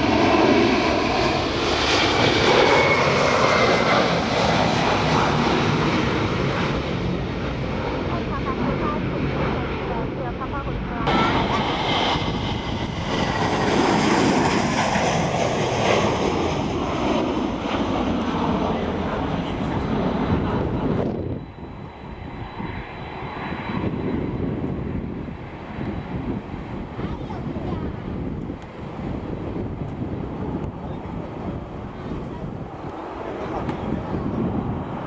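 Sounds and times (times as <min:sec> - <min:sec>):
high jet engine whine: 0:00.0 - 0:35.0
jet engines rumbling: 0:00.0 - 0:35.0.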